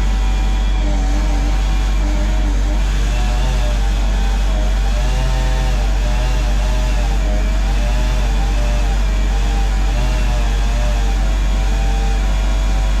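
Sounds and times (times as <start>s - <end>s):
excavator engine running: 0.0s - 13.0s
hydraulic whine: 0.0s - 13.0s.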